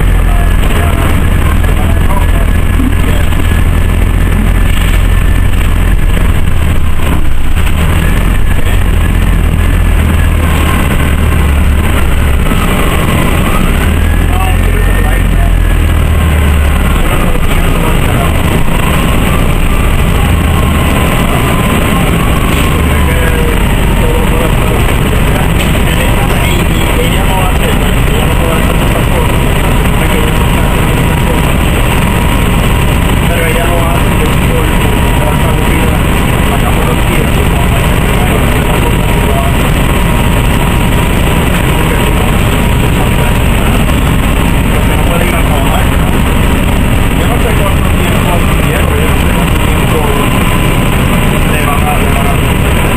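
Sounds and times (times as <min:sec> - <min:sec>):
bus engine running: 0:00.0 - 0:52.9
road noise: 0:00.0 - 0:52.9.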